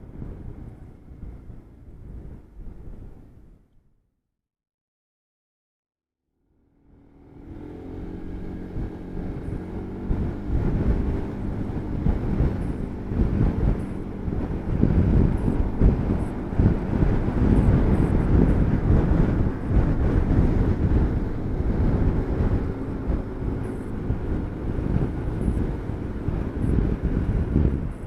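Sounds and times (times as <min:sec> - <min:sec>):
scooter engine: 0:00.0 - 0:03.0, 0:06.6 - 0:28.0
road noise: 0:00.0 - 0:03.6, 0:06.5 - 0:28.0
wind buffeting microphone: 0:00.0 - 0:03.7, 0:06.9 - 0:28.0.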